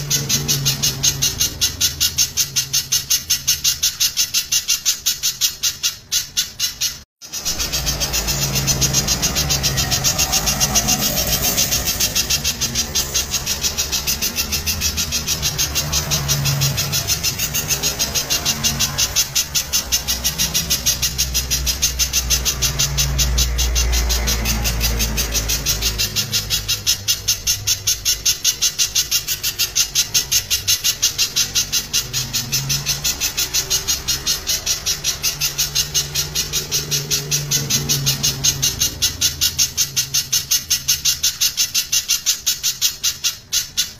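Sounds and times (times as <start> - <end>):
bird calling in sharp notes: 0.0 - 43.9.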